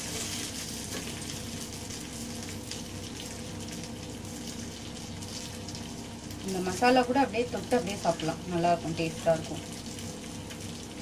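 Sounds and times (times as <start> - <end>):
low steady hum: 0.0 - 11.0
prawns sizzling in oil: 0.0 - 11.0.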